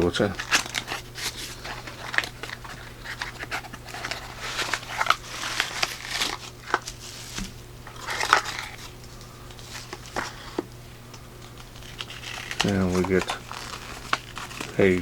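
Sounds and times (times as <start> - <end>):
packaging rustling and crinkling: 0.0 - 10.7, 11.4 - 15.0.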